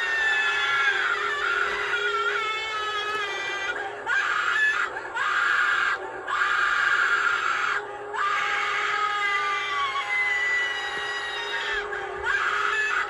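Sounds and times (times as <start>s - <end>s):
animatronic screaming through speaker: 0.0s - 13.0s.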